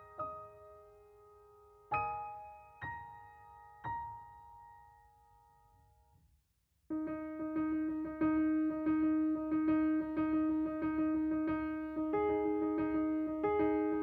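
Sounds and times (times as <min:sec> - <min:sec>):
piano music: 0:00.0 - 0:05.6, 0:06.9 - 0:14.0.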